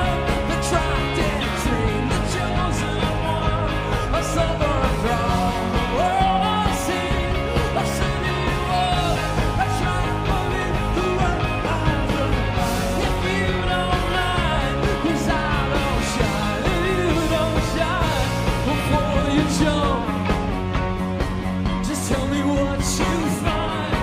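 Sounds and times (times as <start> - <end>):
song with drums and bass: 0.0 - 24.0.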